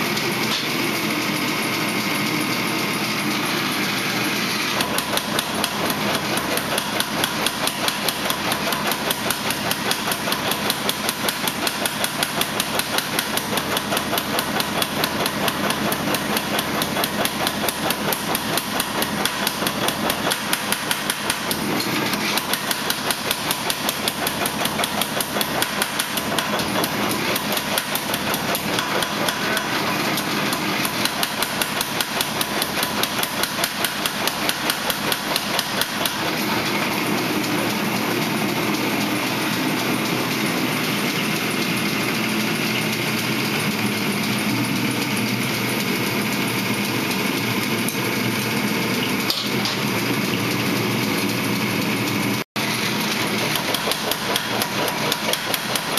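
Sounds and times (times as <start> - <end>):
forge running noise: 0.0 - 55.9.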